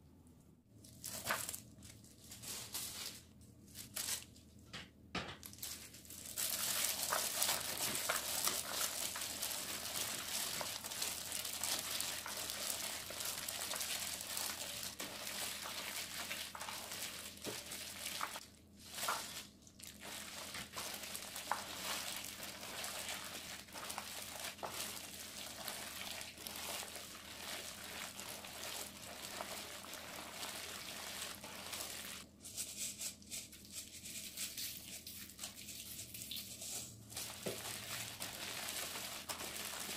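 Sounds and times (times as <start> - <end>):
wet rubbing and rustling: 5.6 - 39.9.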